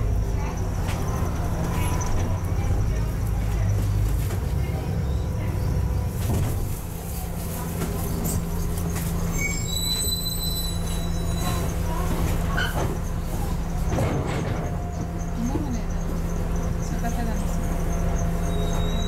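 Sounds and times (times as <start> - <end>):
brakes squealing: 0.0 - 19.0
bus engine running: 0.0 - 19.0.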